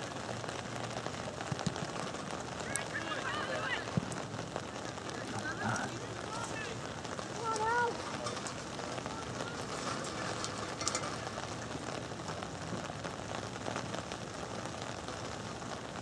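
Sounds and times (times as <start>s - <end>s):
outdoor hiss: 0.0s - 16.0s.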